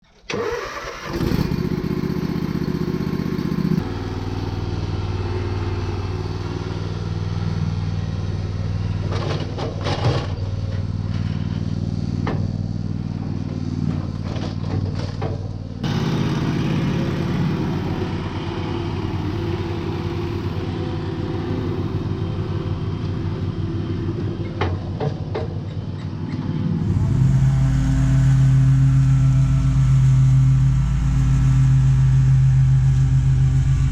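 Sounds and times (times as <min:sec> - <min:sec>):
riding lawn mower engine running: 0:00.3 - 0:33.9.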